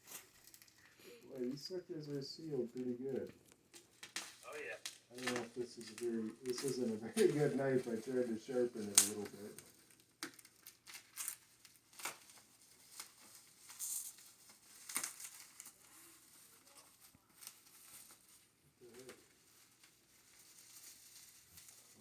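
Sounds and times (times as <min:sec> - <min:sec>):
wrapping crinkling and tearing: 0:00.0 - 0:22.0.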